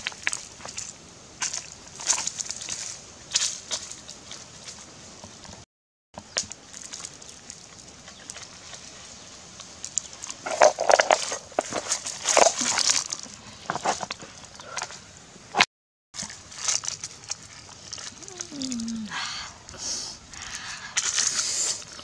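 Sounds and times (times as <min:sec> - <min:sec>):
leaves rustling and crackling: 0:00.0 - 0:05.6, 0:06.2 - 0:15.6, 0:16.2 - 0:22.0.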